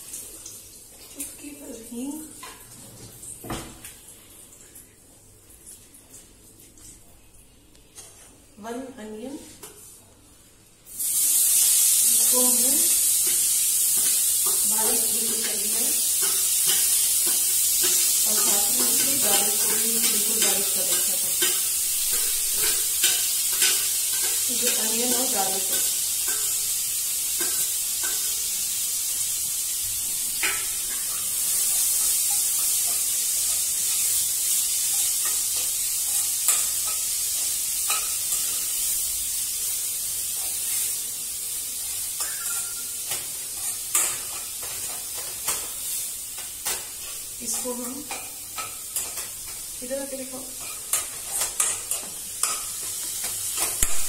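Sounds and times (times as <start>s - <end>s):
food sizzling in hot oil: 0.0s - 4.4s, 10.8s - 54.0s.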